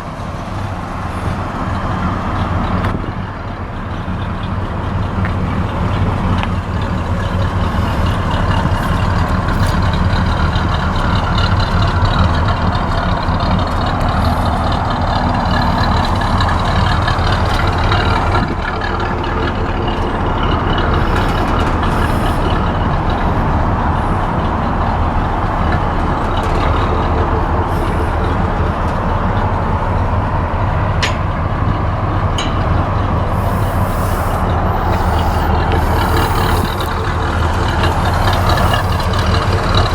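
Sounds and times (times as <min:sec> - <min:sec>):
rushing noise: 0:00.0 - 0:39.9
truck engine running: 0:00.0 - 0:39.9.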